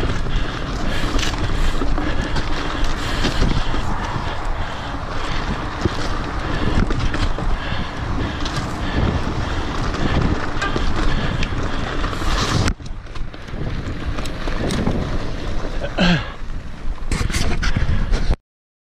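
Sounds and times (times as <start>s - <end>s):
mountain bike rattling on trail: 0.0s - 18.4s
wind buffeting microphone: 0.0s - 18.4s.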